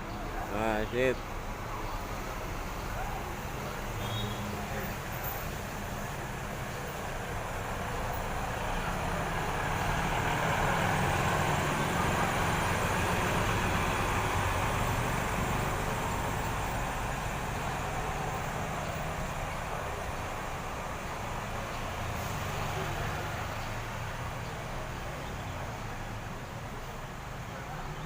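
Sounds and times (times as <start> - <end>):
bus diesel engine rumbling: 0.0 - 28.0.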